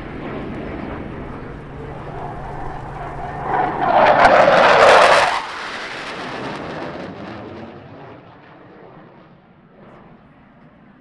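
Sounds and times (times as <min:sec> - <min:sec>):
jet noise rumble: 0:00.0 - 0:11.0.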